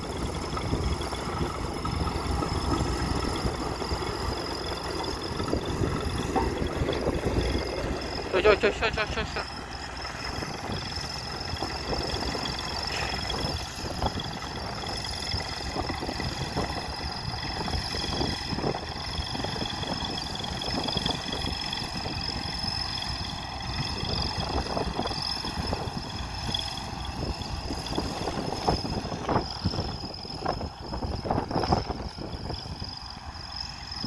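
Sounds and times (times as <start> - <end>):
wind buffeting microphone: 0.0 - 8.3, 9.7 - 33.0
diesel engines running: 0.0 - 34.0.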